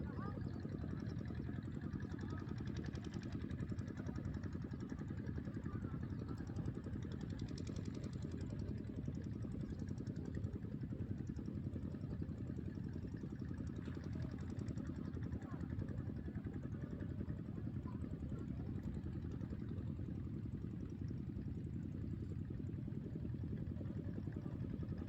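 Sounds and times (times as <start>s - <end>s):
low engine-like rumble: 0.0s - 25.0s.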